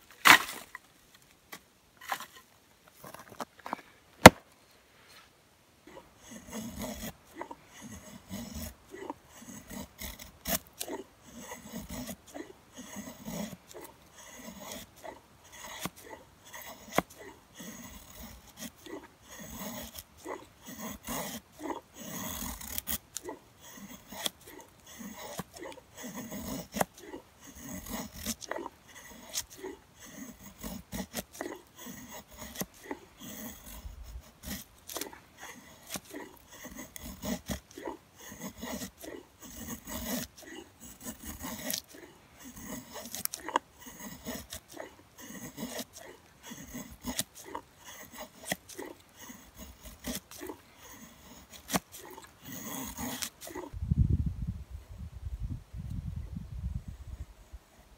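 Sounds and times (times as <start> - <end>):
hatchet scraping wood: 0.0 - 0.8, 1.5 - 4.4, 5.9 - 53.8.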